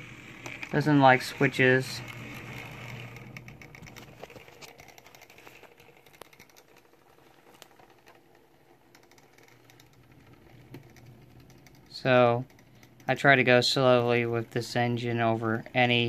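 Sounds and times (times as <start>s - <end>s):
model train wheels clicking: 0.0s - 16.0s.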